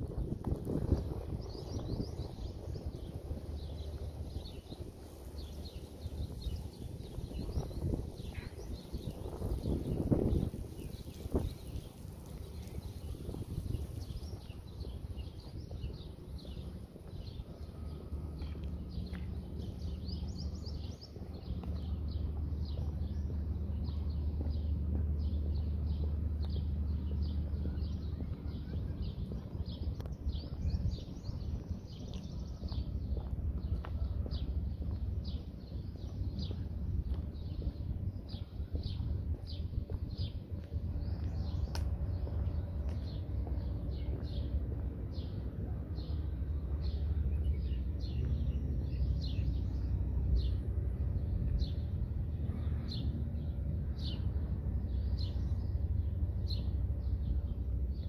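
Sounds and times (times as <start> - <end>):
small birds chirping: 0.0 - 58.0
steady low rumble: 0.0 - 58.0.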